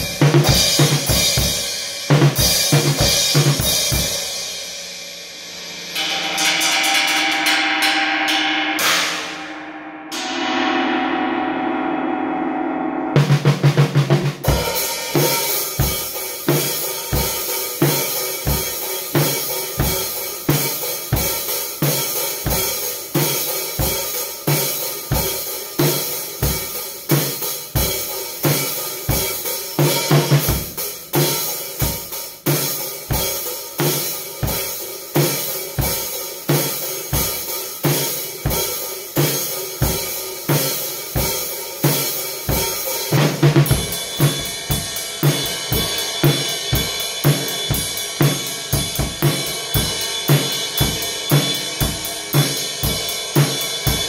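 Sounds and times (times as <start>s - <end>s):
drum kit playing a groove: 0.0s - 10.9s, 13.1s - 54.0s
ringing cymbal wash: 2.5s - 54.0s.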